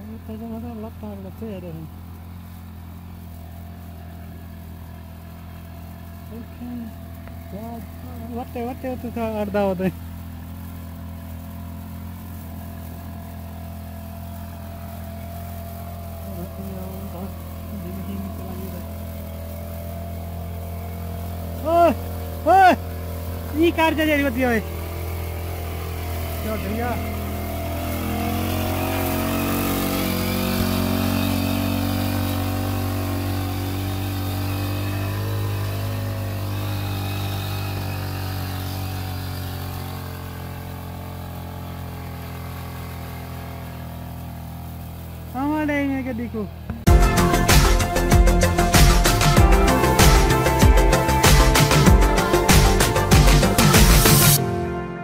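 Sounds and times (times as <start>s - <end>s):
sprayer motor humming: 0.0s - 55.0s.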